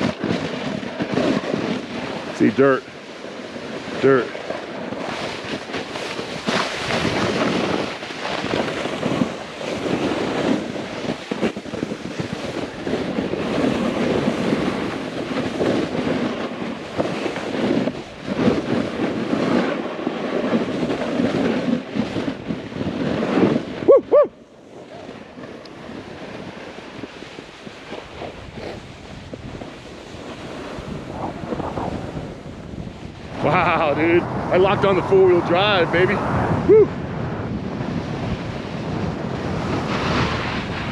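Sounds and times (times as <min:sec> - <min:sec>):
snowboard scraping over snow: 0:00.0 - 0:40.9
wind buffeting microphone: 0:00.0 - 0:40.9.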